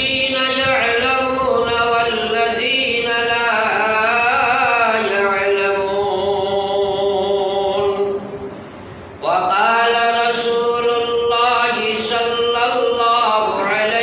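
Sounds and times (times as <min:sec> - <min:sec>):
man chanting a sermon: 0:00.0 - 0:08.3, 0:09.2 - 0:14.0.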